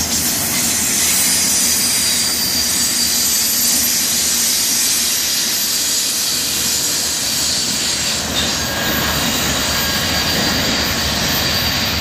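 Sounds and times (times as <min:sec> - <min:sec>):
freight train rolling on rails: 0:00.0 - 0:12.0.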